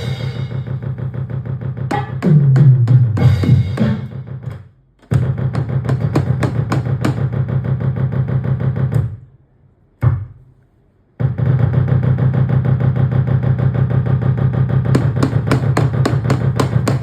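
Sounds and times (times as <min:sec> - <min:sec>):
electronic drum rhythm: 0:00.0 - 0:09.4, 0:11.2 - 0:17.0.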